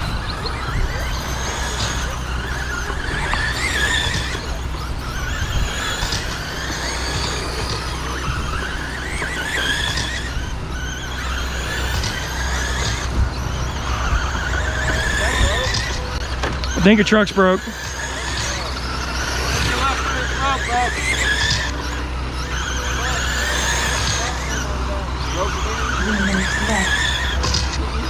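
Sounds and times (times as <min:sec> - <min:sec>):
electric rc car motors whining: 0:00.0 - 0:28.0.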